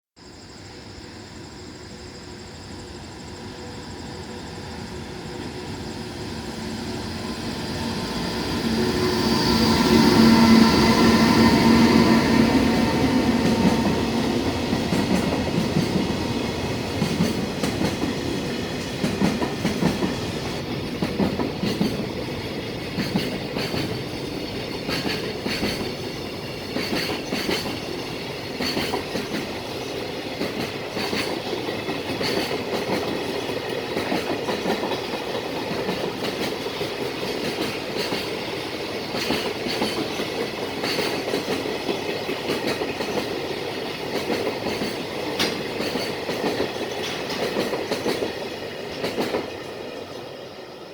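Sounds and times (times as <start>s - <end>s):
freight train wheels clicking: 4.8s - 50.6s.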